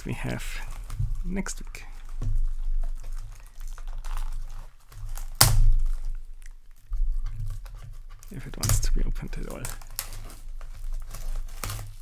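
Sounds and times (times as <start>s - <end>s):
wrapping crinkling: 0.0s - 12.0s.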